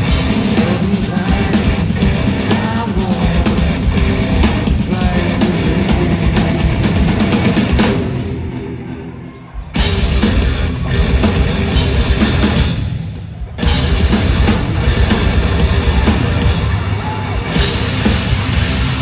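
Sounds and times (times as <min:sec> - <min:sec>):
loud hard rock band: 0:00.0 - 0:19.0.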